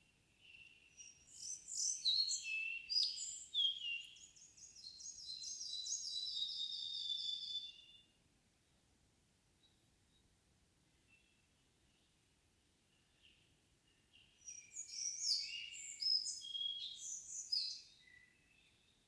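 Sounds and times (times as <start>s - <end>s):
songbird singing: 0.0s - 8.2s, 11.0s - 19.0s.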